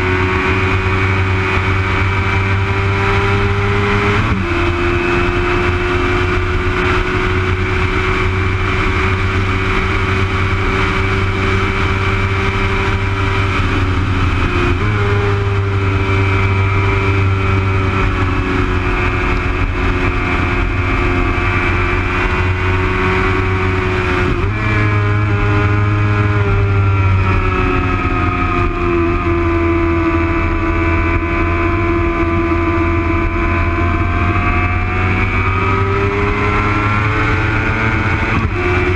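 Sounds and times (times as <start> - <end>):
motorcycle engine at high revs: 0.0 - 38.9
wind and road rush: 0.0 - 38.9.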